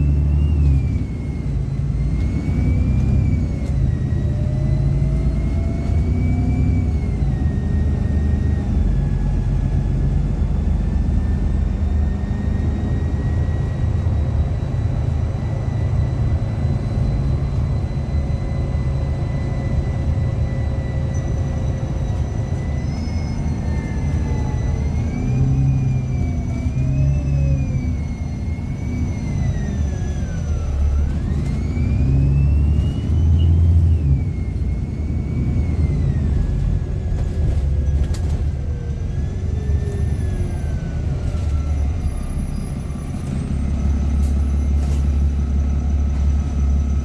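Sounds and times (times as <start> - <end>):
bus engine rumbling and whining: 0.0 - 47.0.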